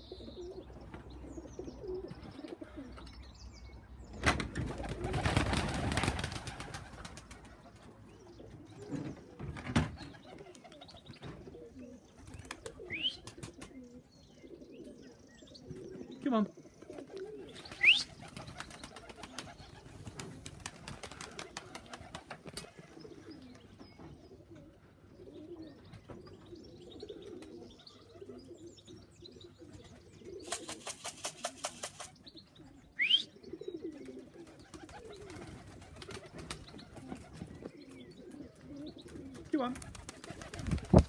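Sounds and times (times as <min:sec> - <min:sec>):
pigeons cooing: 0:00.0 - 0:41.0.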